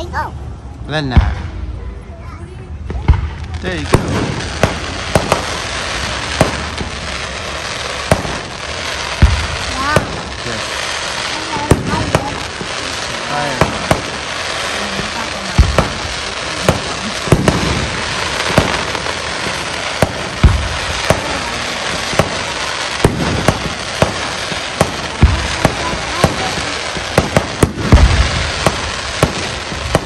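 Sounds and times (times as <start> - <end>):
constant noisy hiss: 0.0 - 30.0
fireworks bangs and pops: 1.0 - 1.7, 2.8 - 30.0.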